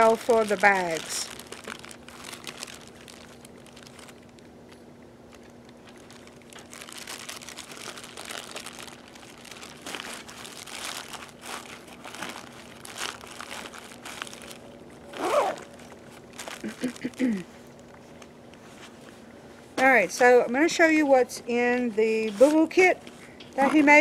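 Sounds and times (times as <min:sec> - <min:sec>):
packaging crinkling and rustling: 0:00.0 - 0:19.1, 0:22.1 - 0:24.0.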